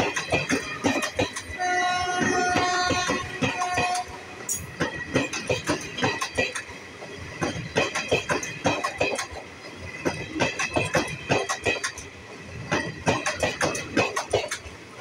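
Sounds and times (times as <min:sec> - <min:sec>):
train wheels clattering over joints: 0:00.0 - 0:14.7
train rumble: 0:00.0 - 0:15.0.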